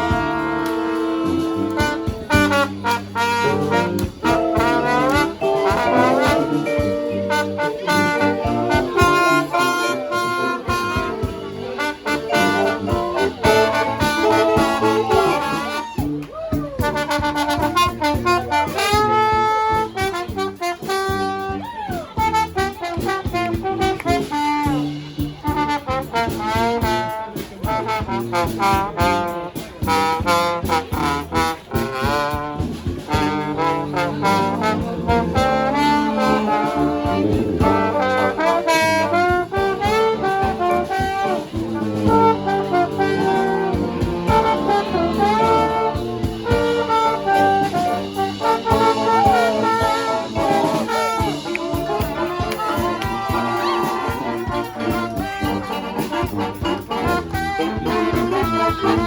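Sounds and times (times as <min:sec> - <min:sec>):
brass band playing: 0:00.0 - 0:59.0
drumbeat: 0:00.0 - 0:59.0.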